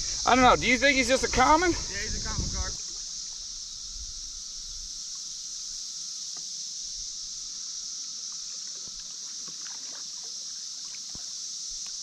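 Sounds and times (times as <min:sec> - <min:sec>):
creek hiss: 0:00.0 - 0:12.0.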